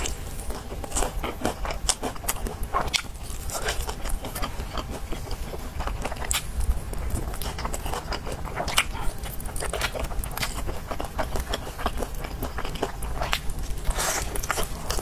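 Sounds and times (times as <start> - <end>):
crunchy biting and chewing: 0.0 - 15.0.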